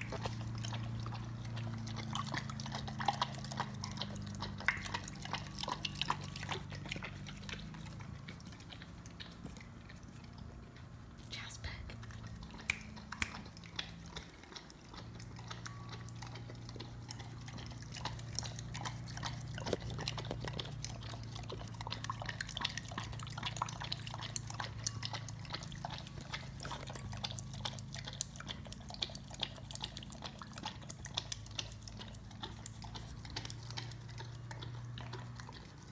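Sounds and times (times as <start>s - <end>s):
dog lapping milk: 0.0s - 11.2s, 11.9s - 35.9s.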